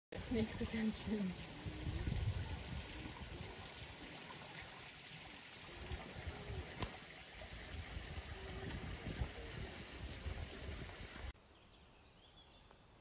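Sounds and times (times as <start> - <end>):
outdoor background hiss: 0.2 - 13.0.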